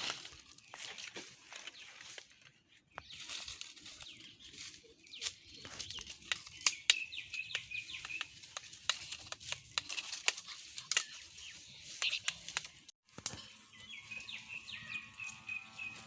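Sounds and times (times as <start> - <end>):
birds chirping: 1.6 - 16.0.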